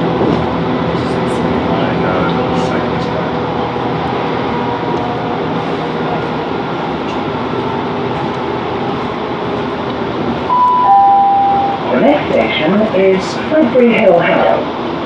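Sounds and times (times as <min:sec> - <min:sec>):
diesel train engine: 0:00.0 - 0:15.0.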